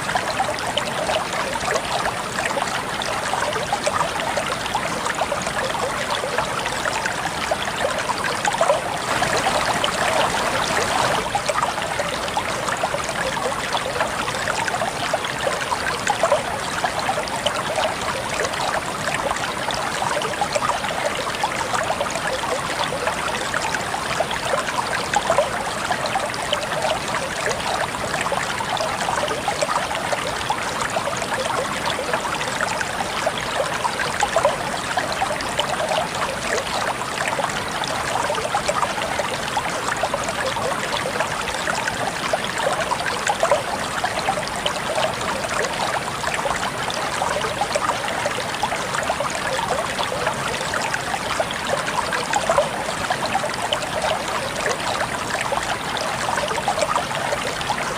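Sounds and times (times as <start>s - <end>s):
stream water flowing and trickling: 0.0s - 57.9s.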